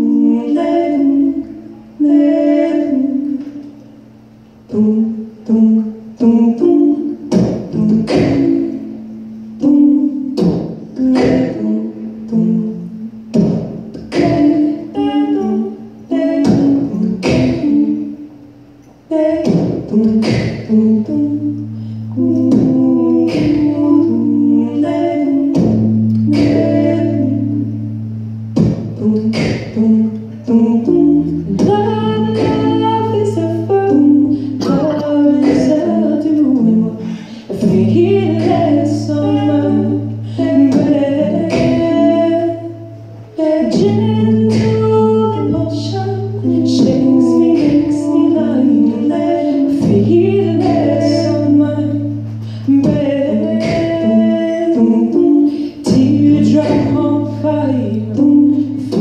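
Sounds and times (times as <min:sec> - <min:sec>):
woman singing into a microphone: 0:00.0 - 0:03.9, 0:04.7 - 0:18.4, 0:19.1 - 0:59.0
held low notes: 0:00.0 - 0:59.0.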